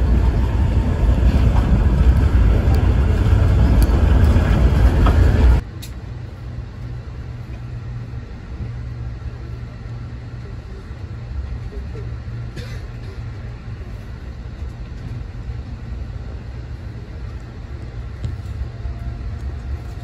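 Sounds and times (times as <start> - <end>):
low hum: 0.0 - 20.0
train rumbling on rails: 0.0 - 20.0.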